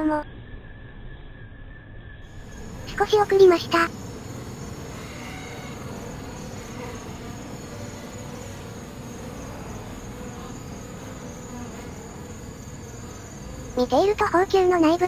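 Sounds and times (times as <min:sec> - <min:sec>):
honeybees buzzing: 0:02.3 - 0:15.0.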